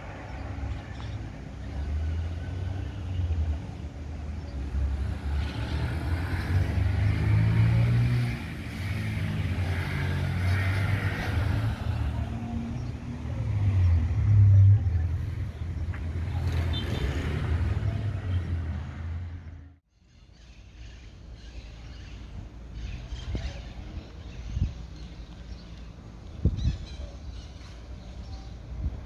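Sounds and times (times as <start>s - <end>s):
street traffic passing: 0.0s - 29.0s.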